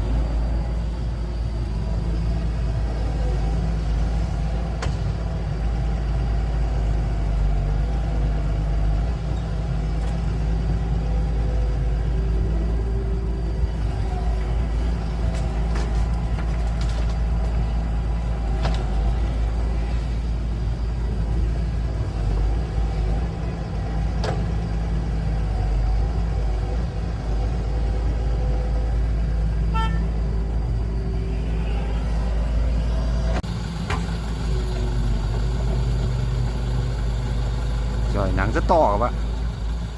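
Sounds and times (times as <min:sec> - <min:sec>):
diesel machinery rumbling: 0:00.0 - 0:39.9.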